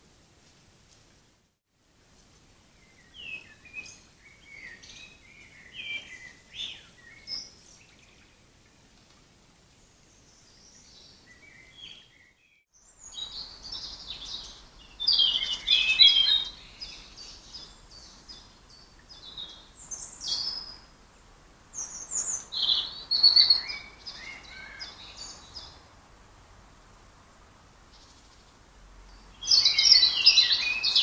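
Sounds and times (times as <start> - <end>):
songbirds chirping: 0.9 - 31.0.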